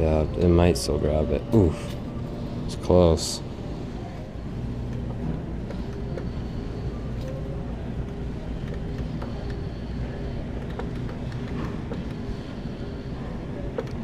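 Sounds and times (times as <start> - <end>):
arcade background hum: 0.0 - 14.0.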